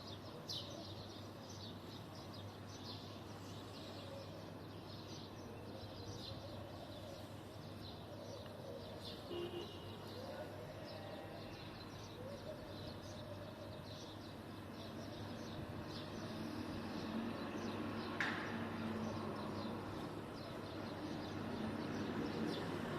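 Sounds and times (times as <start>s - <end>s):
sparrows chirping: 0.0s - 22.9s.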